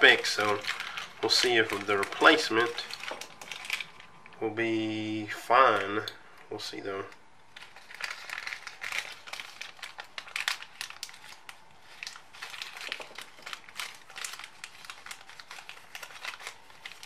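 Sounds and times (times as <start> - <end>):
crinkling handling noise: 0.0 - 4.5, 5.3 - 17.0.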